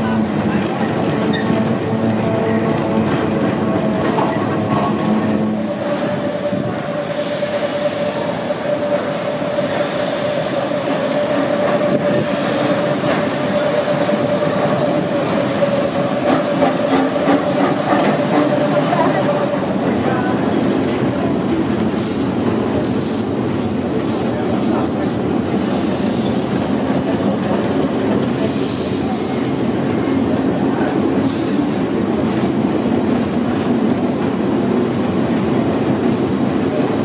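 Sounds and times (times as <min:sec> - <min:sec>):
steady streetcar whine: 0:00.0 - 0:37.0
streetcar wheels rumbling on rails: 0:00.0 - 0:37.0.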